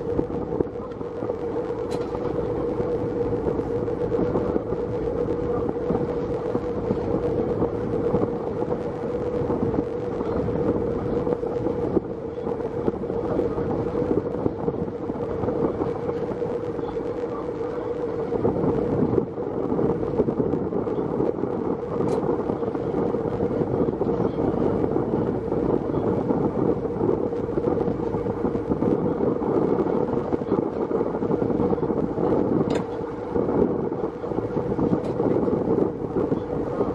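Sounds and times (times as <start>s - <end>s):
boat engine humming: 0.0s - 36.9s
wind buffeting microphone: 0.0s - 36.9s.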